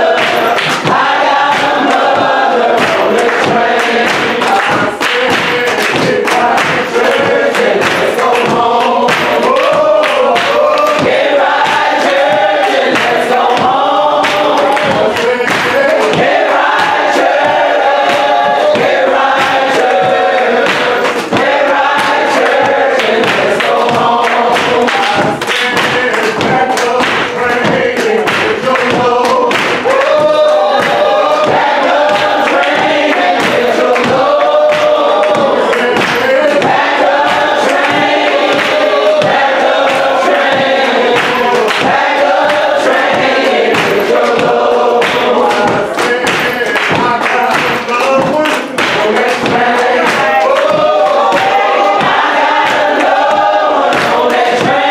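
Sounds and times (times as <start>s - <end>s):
choir and congregation singing: 0.0s - 54.9s
steady sharp hits: 0.0s - 54.9s.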